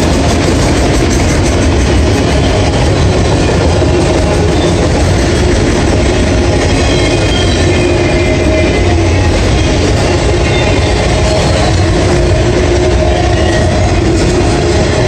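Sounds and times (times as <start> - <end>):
freight train wheels rolling: 0.0 - 15.0.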